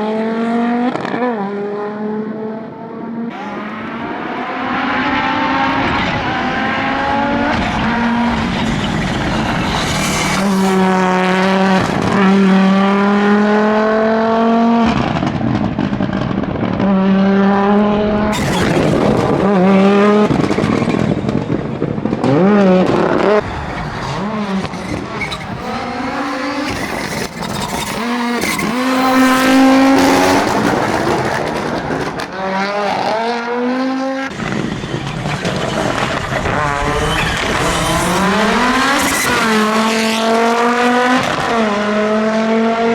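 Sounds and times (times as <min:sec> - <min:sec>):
rally car engine revving: 0:00.0 - 0:42.9.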